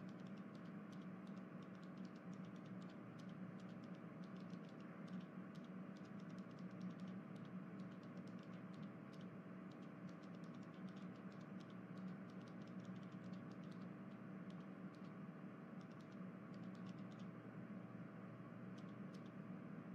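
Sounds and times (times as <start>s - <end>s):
light ticking clicks: 0.0s - 15.2s, 15.8s - 17.3s, 18.7s - 19.4s.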